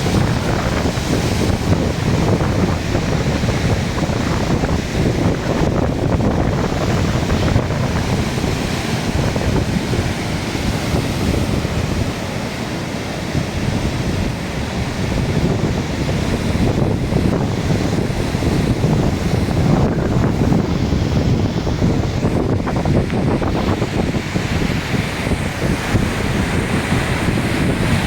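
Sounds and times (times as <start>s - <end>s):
heavy surf rushing: 0.0s - 28.0s
wind buffeting microphone: 0.0s - 28.0s.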